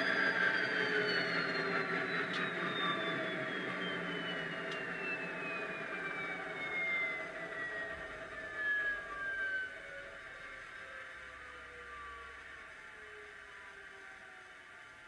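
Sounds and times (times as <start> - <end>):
turbocharger whine falling in pitch: 0.0 - 14.9
diesel locomotive engine running: 0.0 - 15.0.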